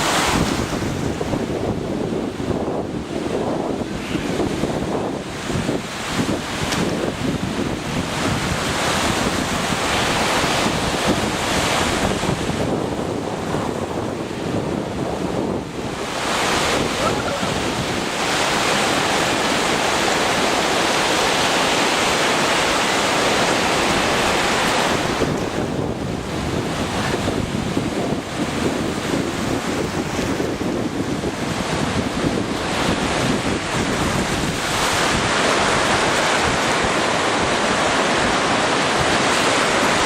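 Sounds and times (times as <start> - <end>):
lake waves washing in: 0.0 - 40.0
wind on microphone: 0.0 - 40.0.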